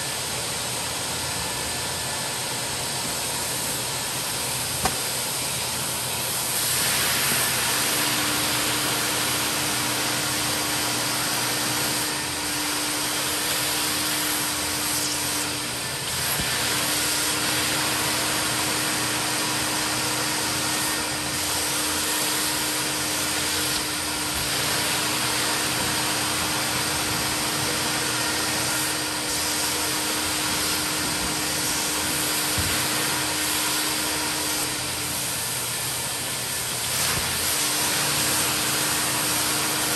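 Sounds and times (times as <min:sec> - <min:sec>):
carpet extractor suction hiss: 0:00.0 - 0:39.9
steady hum: 0:00.0 - 0:39.9.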